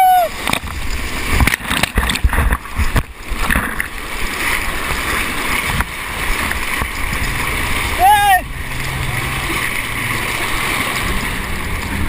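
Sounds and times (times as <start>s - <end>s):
paddle splashes: 0.0s - 12.0s
river water rushing: 0.0s - 12.0s.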